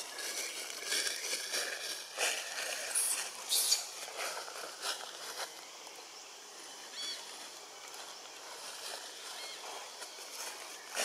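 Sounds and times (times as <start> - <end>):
leaves and twigs rustling: 0.0 - 11.0.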